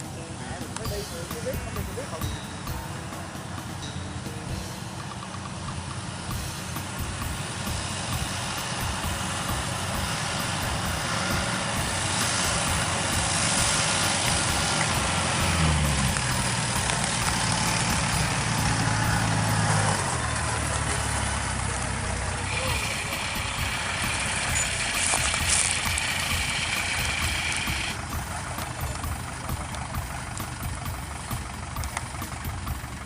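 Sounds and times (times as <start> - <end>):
deep steady engine note: 0.0 - 33.0
heavy machinery engine running: 0.0 - 33.0.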